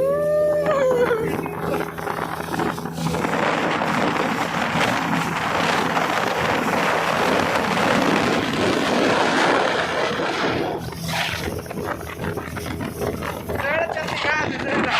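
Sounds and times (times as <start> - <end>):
boat motor running: 0.0 - 14.9
water rushing: 0.0 - 14.9
wind buffeting microphone: 0.0 - 14.9.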